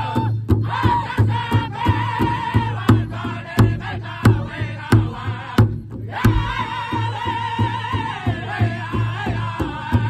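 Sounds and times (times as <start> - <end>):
large drum steady beat: 0.0 - 10.0
men singing in high voices: 0.0 - 10.0.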